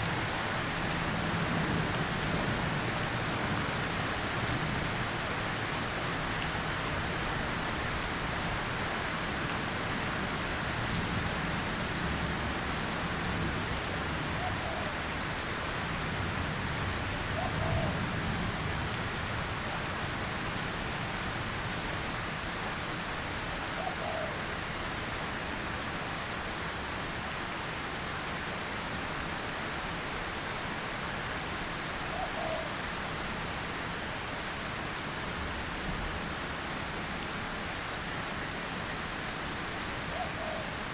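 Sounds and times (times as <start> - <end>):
light rain pattering: 0.0 - 40.9.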